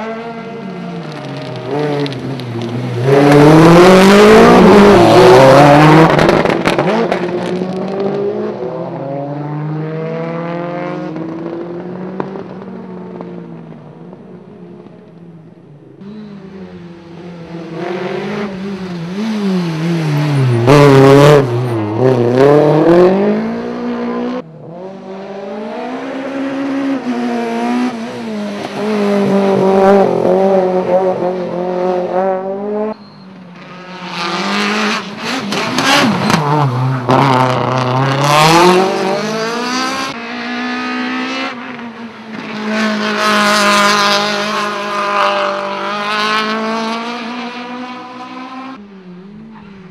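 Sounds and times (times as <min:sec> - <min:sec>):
rally cars revving past: 0:00.0 - 0:13.7, 0:16.0 - 0:49.9.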